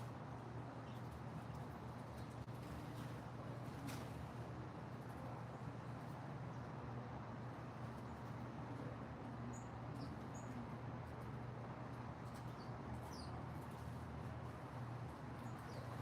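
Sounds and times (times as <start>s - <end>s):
songbirds chirping: 0.1s - 16.0s.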